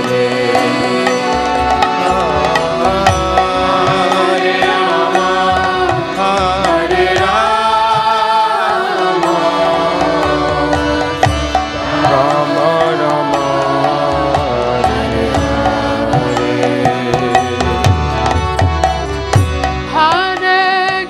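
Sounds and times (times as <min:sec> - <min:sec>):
person singing: 0:00.0 - 0:18.9, 0:19.9 - 0:21.0
steady drone: 0:00.0 - 0:21.0.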